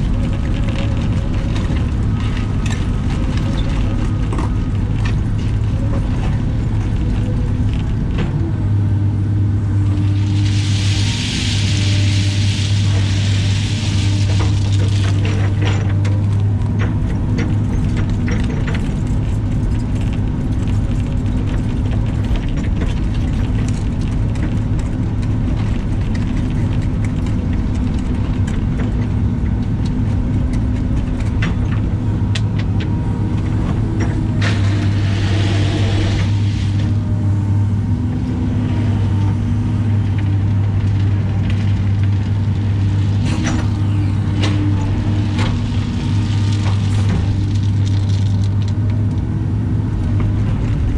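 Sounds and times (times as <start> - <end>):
gravel clattering: 0.0 - 8.5, 9.8 - 37.2, 39.3 - 49.3
gravel sliding: 0.0 - 8.5, 9.5 - 37.4, 38.3 - 50.9
excavator diesel engine running: 0.0 - 50.9.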